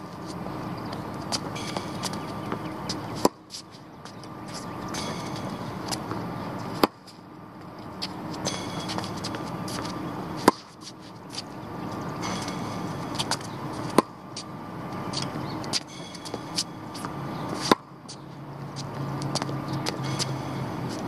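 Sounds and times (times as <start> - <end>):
traffic hum: 0.0 - 21.0
tennis racket hitting ball: 0.2 - 7.2, 8.0 - 11.6, 12.2 - 18.2, 18.8 - 21.0.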